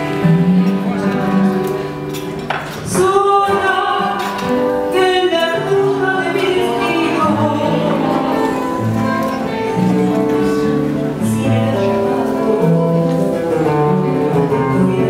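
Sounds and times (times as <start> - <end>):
guitars: 0.0 - 15.0
woman singing into microphone: 2.8 - 15.0.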